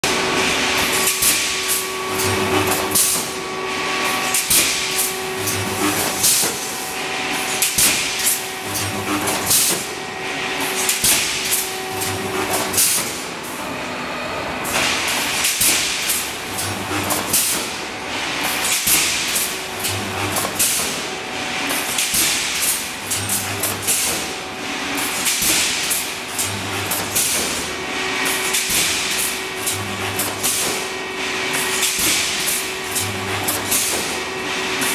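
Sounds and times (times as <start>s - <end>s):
welding machine clanks: 0.0s - 13.6s, 14.6s - 34.9s.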